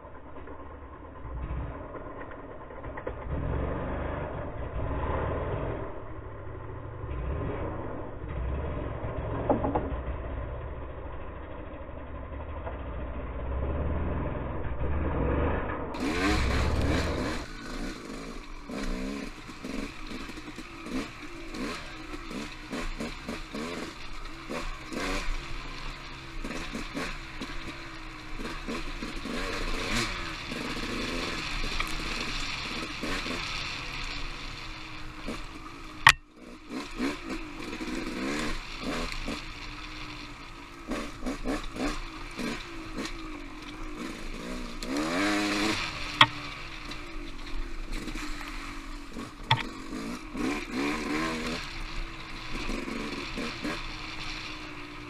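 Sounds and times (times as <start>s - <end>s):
dirt bike engine revving: 1.1s - 55.0s.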